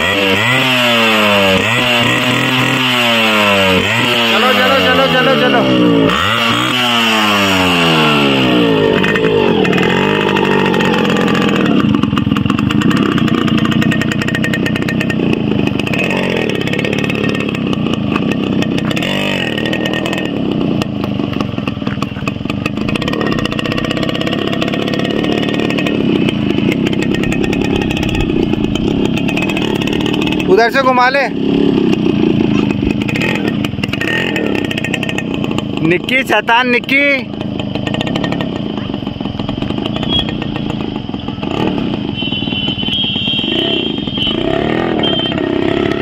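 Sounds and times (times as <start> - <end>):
two-stroke motorcycle engine revving: 0.0 - 46.0.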